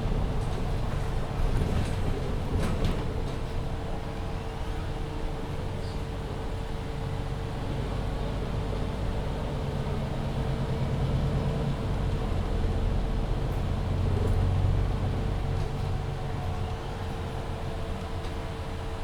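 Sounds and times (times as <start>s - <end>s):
bus diesel engine whine: 3.1s - 19.0s.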